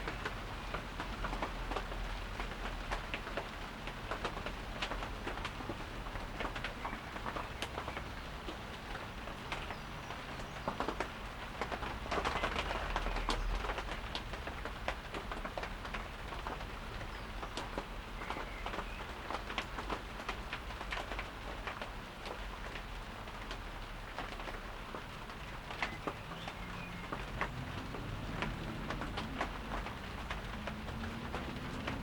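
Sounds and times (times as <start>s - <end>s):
light rain falling: 0.0s - 32.0s
raindrops ticking on surfaces: 0.0s - 32.0s.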